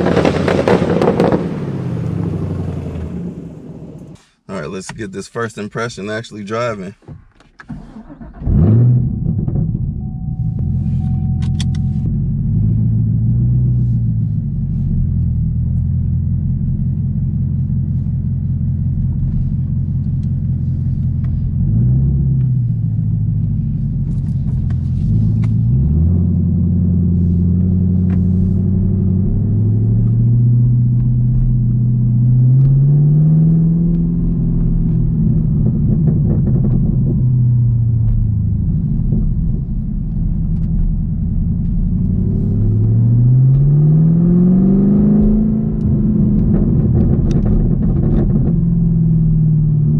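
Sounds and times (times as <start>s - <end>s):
car engine revving: 0.0s - 4.2s, 7.9s - 49.9s.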